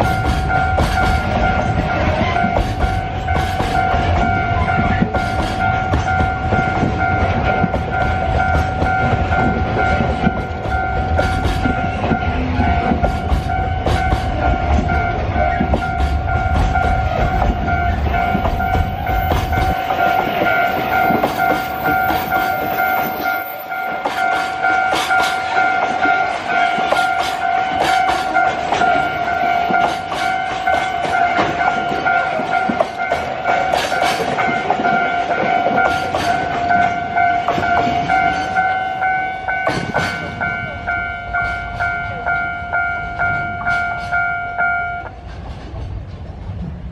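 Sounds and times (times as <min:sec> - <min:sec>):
crossing alarm two-tone ringing: 0:00.0 - 0:45.2
heavy low train rumble: 0:00.0 - 0:46.9
train wheels clicking over rail joints: 0:00.0 - 0:46.9.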